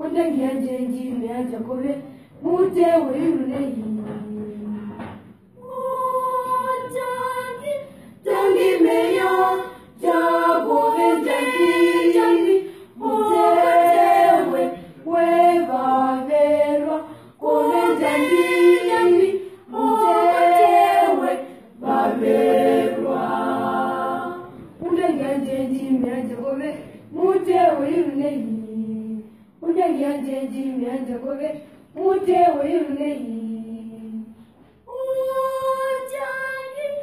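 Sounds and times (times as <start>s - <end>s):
girls' choir singing: 0.0s - 37.0s.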